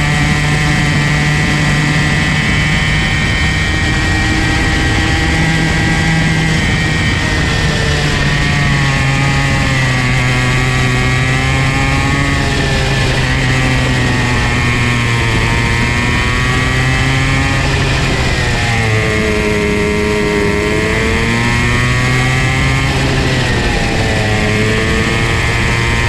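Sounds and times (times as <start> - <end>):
go-kart engine revving: 0.0 - 26.0.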